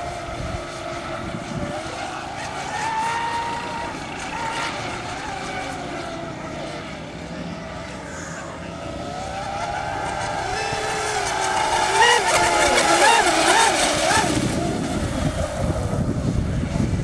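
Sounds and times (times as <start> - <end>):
high motor whines of model boats: 0.0 - 17.0.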